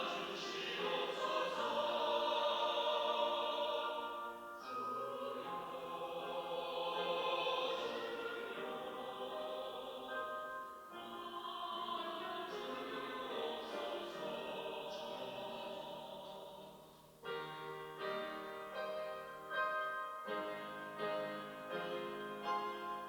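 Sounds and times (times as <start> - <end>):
church choir singing: 0.0 - 23.0.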